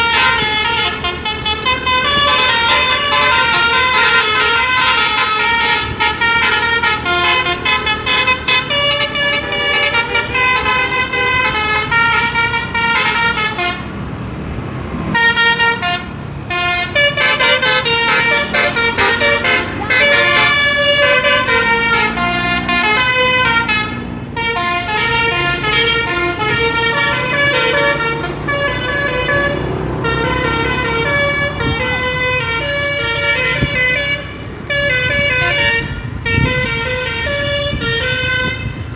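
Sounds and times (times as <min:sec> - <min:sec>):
multi-tone bus horn tune: 0:00.0 - 0:14.0, 0:15.0 - 0:38.9.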